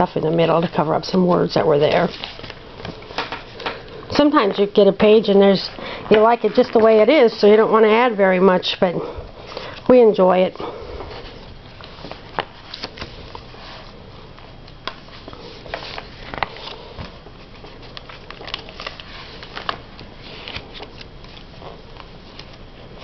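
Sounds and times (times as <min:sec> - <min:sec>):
paper pages rustling and turning: 0:00.0 - 0:04.6, 0:05.4 - 0:07.6, 0:11.1 - 0:23.0.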